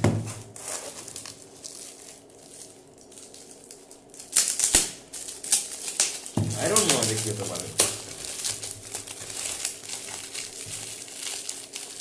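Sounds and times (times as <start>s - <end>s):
wrapping paper rustling and crinkling: 0.2s - 12.0s.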